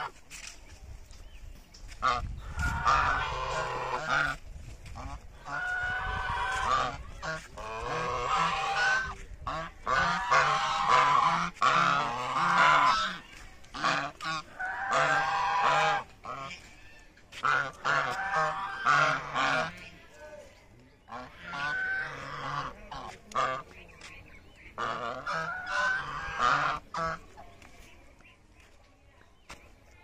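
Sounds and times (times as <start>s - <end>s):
geese honking: 1.9s - 20.2s, 21.0s - 27.8s.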